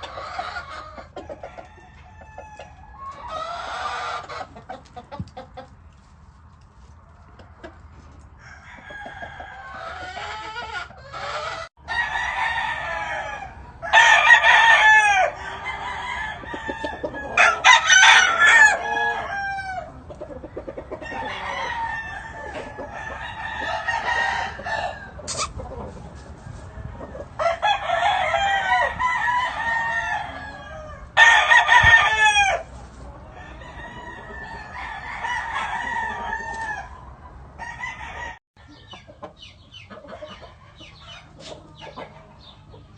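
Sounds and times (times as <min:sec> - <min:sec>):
roosters crowing: 0:00.0 - 0:04.8, 0:07.5 - 0:39.2
chickens clucking: 0:00.0 - 0:42.9.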